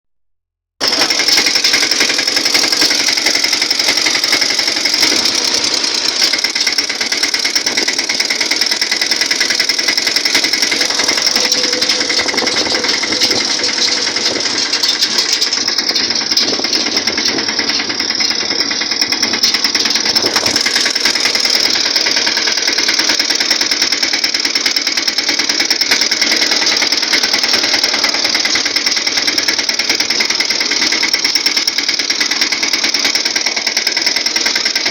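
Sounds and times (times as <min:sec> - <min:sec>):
tractor diesel engine running: 0:00.8 - 0:34.9.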